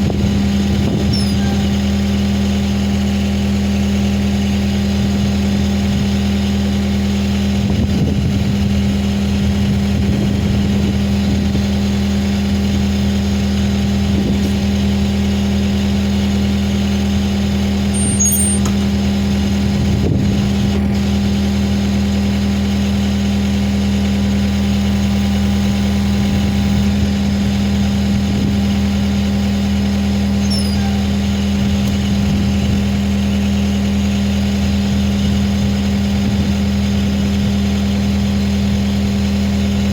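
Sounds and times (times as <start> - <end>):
skid steer engine idling: 0.0 - 39.9.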